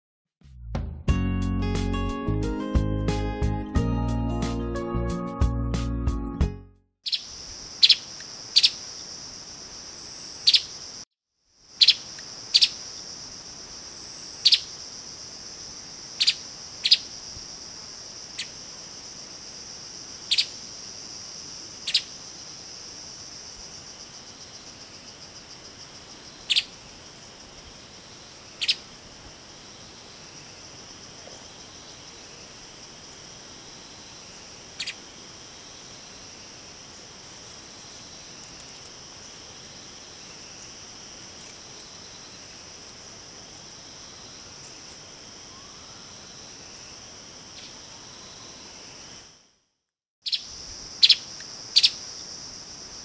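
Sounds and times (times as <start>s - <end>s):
high insect drone: 7.1s - 49.6s, 50.2s - 53.0s.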